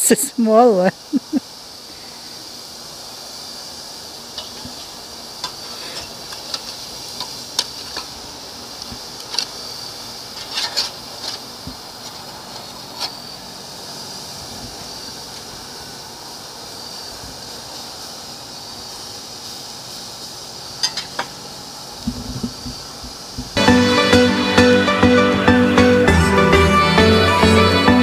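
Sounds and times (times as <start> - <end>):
patties sizzling on grill: 1.1 - 23.8.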